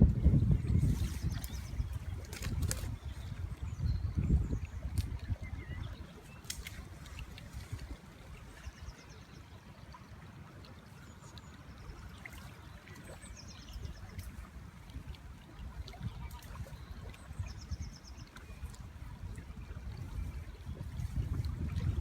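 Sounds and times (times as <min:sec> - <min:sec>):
wind on microphone: 0:00.0 - 0:09.0, 0:13.0 - 0:22.0
river water running: 0:00.0 - 0:22.0.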